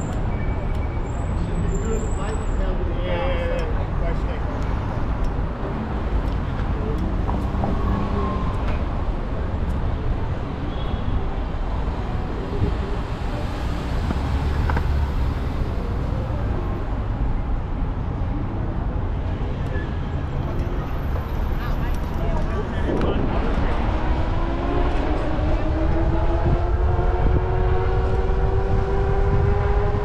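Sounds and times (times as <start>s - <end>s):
cars passing: 0.0s - 30.0s
low traffic rumble: 0.0s - 30.0s.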